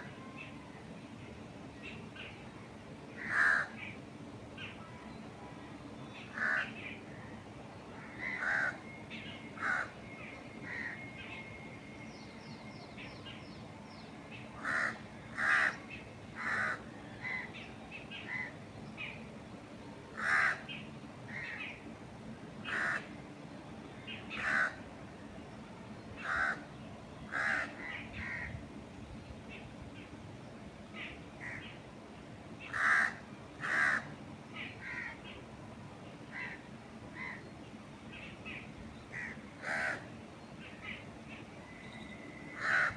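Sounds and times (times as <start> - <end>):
birds harsh calls: 3.1 - 5.3, 6.0 - 21.9, 22.6 - 23.4, 24.0 - 25.3, 25.9 - 28.8, 29.4 - 35.5, 36.2 - 42.9.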